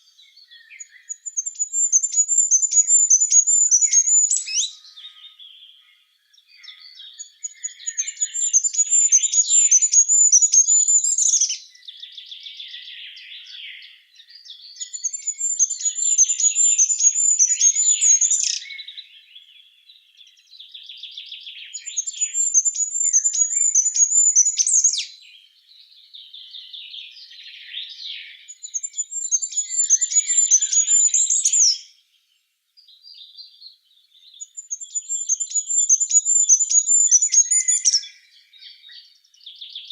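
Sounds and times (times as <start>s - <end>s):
quiet bird chirping: 0.0s - 39.9s
songbird singing: 0.0s - 39.9s.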